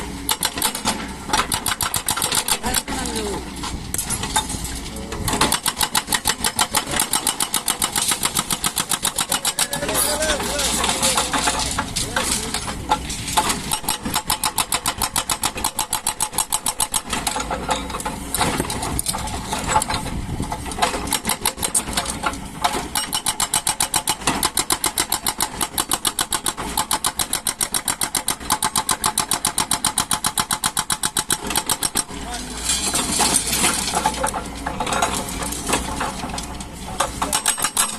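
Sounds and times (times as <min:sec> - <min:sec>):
excavator engine pulsing: 0:00.0 - 0:37.9.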